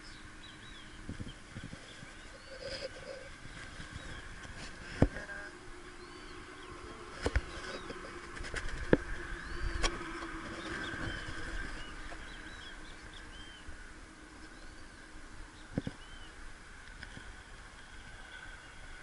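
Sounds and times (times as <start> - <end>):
faint background hum: 0.0 - 19.0
small birds chirping: 0.0 - 19.0.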